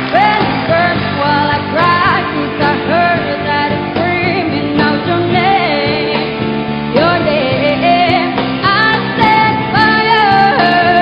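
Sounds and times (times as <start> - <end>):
band playing: 0.0 - 11.0
woman singing pop ballad: 0.0 - 11.0.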